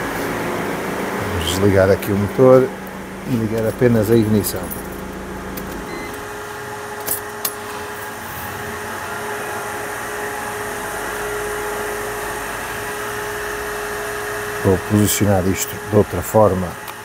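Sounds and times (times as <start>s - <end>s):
mechanical hum with whine: 0.0s - 17.0s.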